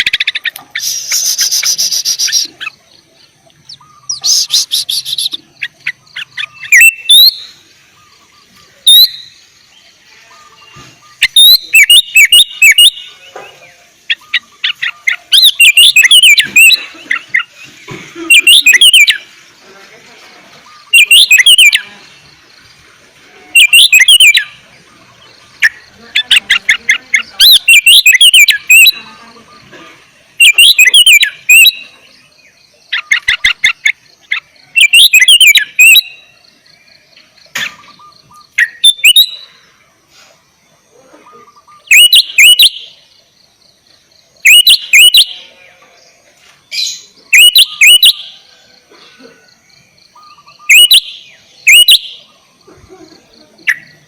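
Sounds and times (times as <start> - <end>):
bulbul singing whistled phrases: 0.0 - 19.7, 20.4 - 39.8, 41.1 - 45.9, 46.6 - 48.6, 49.7 - 54.0.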